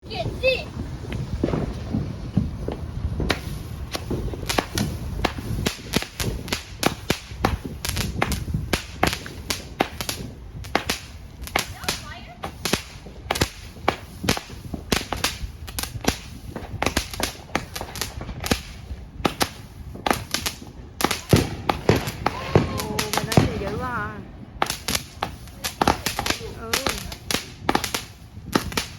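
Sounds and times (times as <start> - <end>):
firecrackers cracking: 0.0 - 28.9
low background rumble: 0.0 - 28.9.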